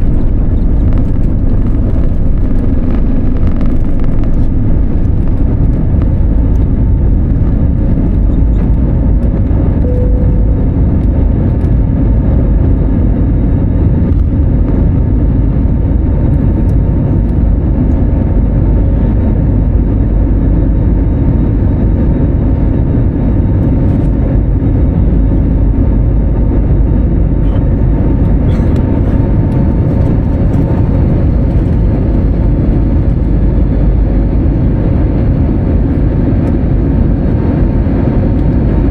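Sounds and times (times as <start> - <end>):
engine and airflow rumble: 0.0 - 38.9
faint steady hum: 0.0 - 38.9.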